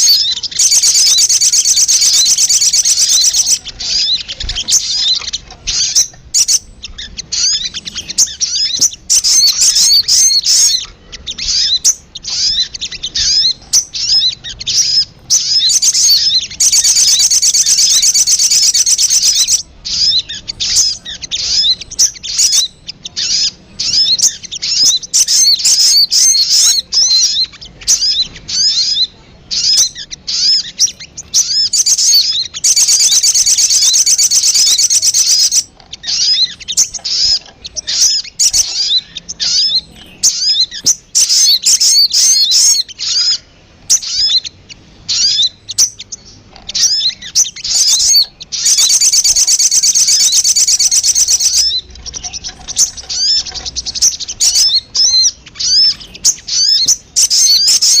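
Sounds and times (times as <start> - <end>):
bird chirping: 0.0 - 58.0
bird trilling: 0.0 - 58.0.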